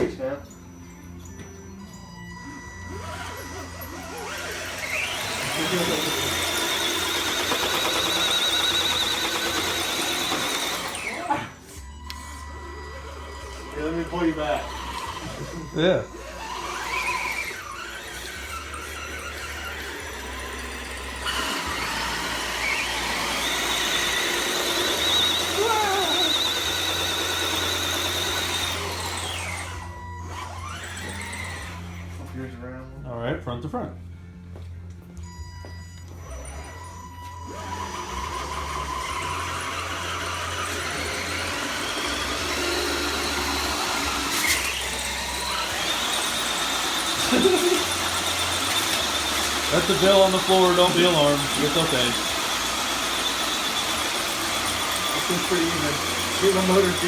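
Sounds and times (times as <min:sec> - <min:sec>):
electric motor whine: 0:00.0 - 0:32.5, 0:34.3 - 0:57.0.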